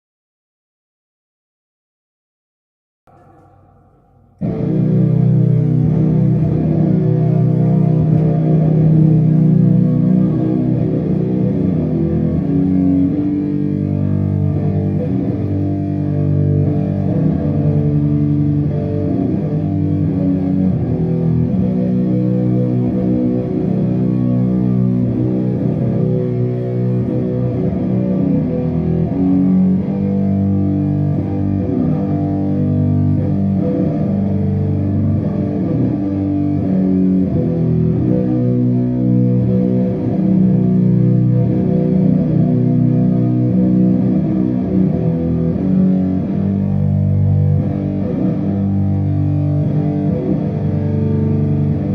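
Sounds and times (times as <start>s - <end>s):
doom metal band playing: 3.1s - 51.9s.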